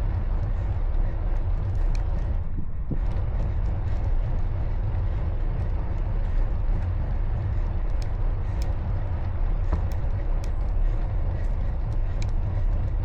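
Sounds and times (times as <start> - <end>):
road noise from bicycle: 0.0 - 13.0
wind on microphone: 0.0 - 13.0.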